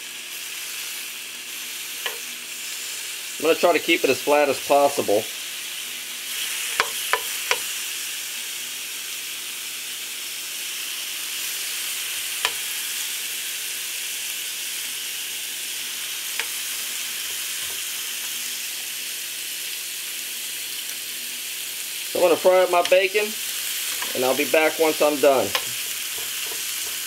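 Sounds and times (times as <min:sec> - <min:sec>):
bacon sizzling in a frying pan: 0:00.0 - 0:27.0.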